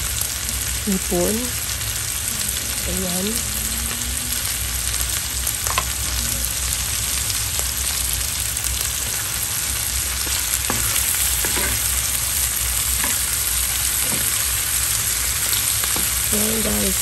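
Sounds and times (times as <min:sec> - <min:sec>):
shrimp sizzling in butter: 0:00.0 - 0:17.0.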